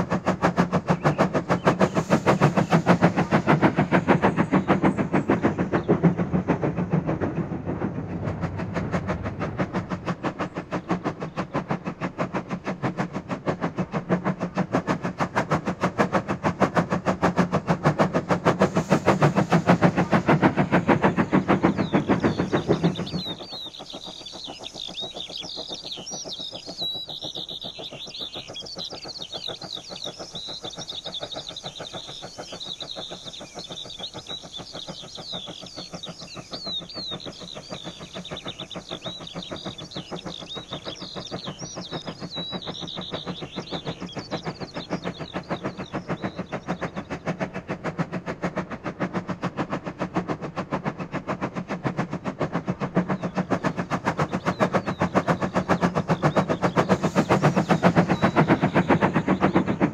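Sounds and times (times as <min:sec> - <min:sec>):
birds singing: 0:00.0 - 0:59.9
steam freight train clatter: 0:00.0 - 0:59.9.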